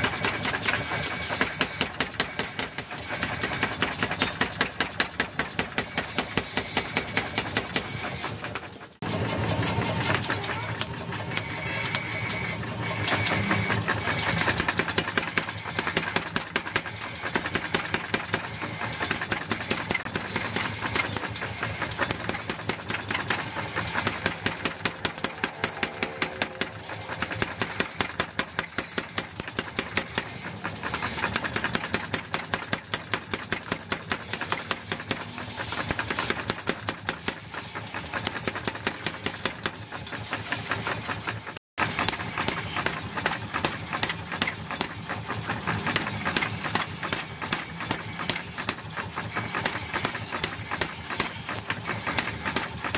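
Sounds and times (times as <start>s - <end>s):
power hammer pounding steel: 0.0s - 52.9s.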